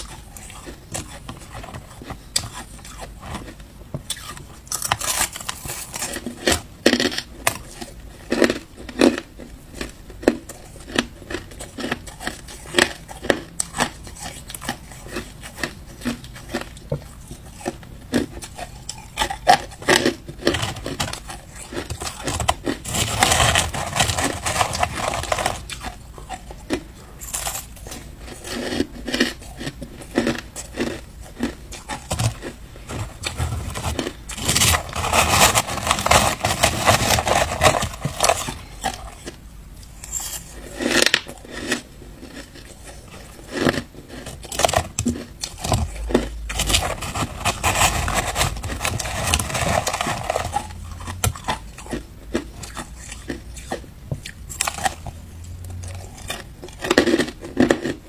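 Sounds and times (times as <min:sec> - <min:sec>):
ice crunching while chewed: 0:00.0 - 0:58.0.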